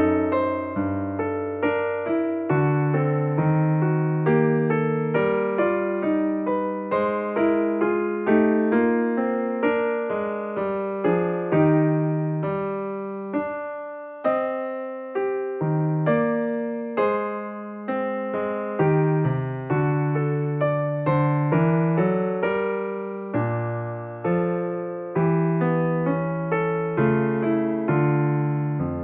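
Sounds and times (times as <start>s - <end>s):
gentle electric piano music: 0.0s - 29.0s.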